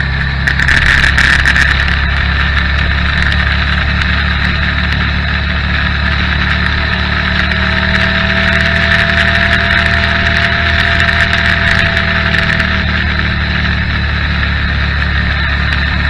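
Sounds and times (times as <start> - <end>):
motorcycle engine running: 0.0 - 16.0
rushing air and road noise: 0.0 - 16.0.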